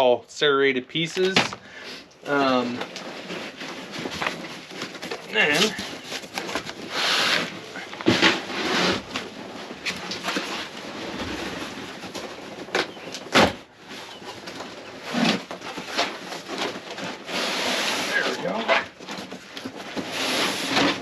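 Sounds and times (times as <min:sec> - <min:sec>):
rustling of packaging: 0:00.9 - 0:21.0.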